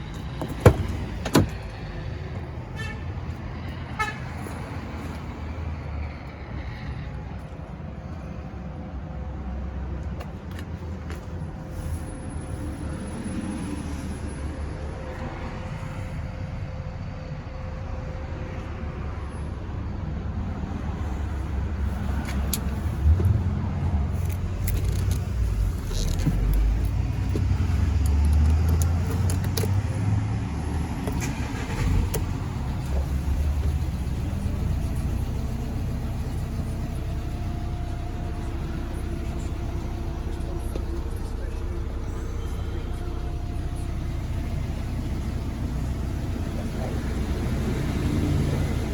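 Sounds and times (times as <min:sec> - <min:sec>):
diesel engine rumbling: 0:00.0 - 0:48.9.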